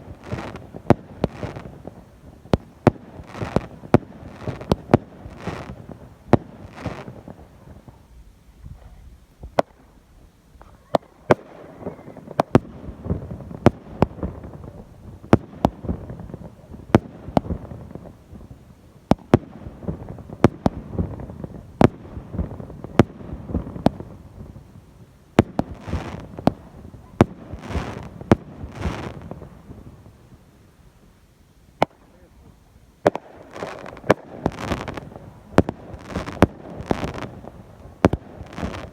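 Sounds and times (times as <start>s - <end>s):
fireworks bangs: 0.0s - 10.0s, 10.6s - 31.2s, 31.8s - 38.9s
fireworks hissing: 0.0s - 38.9s.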